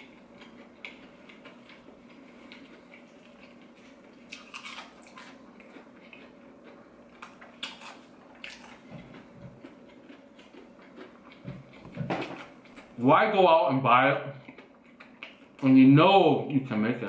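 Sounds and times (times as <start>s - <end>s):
person chewing crunchy food: 0.0s - 13.0s, 14.4s - 15.7s
faint steady hum: 0.0s - 17.0s.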